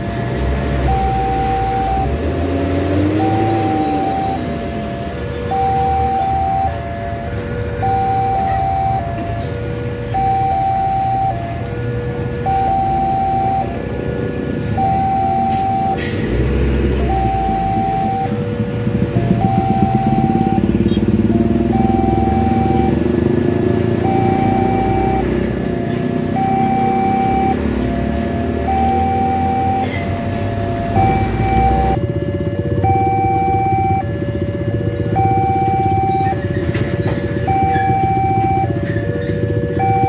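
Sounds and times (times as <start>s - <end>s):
level-crossing alarm chimes: 0.0s - 13.8s, 14.8s - 16.1s, 17.1s - 18.4s, 19.2s - 23.2s, 24.0s - 40.0s
motorcycle engines: 0.0s - 40.0s
truck engines: 0.0s - 40.0s.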